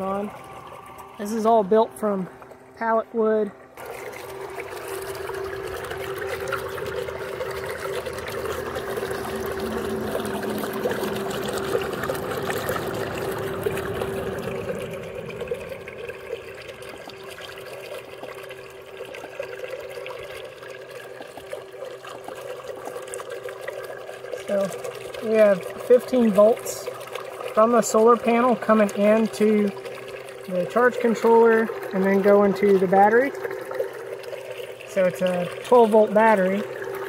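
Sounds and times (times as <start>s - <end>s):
electric water pump humming: 0.0s - 37.0s
water churning and splashing: 0.0s - 37.0s.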